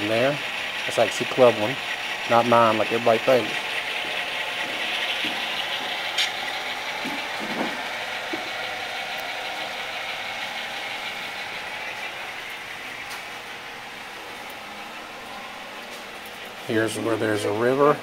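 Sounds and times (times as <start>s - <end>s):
model train diesel engine hum: 0.0s - 18.0s.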